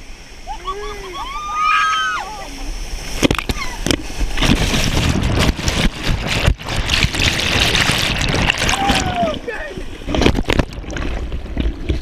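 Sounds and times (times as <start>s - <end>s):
whitewater rapids rushing and splashing: 0.0s - 12.0s.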